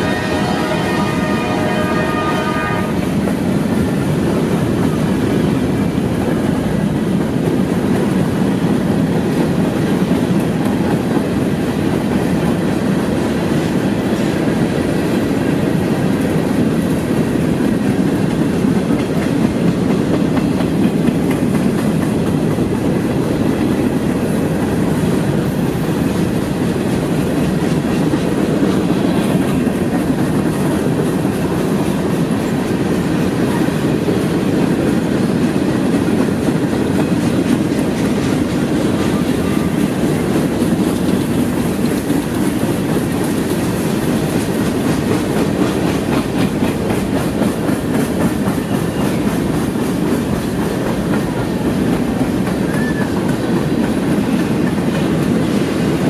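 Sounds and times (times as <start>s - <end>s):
freight train wheels rolling: 0.0s - 56.0s.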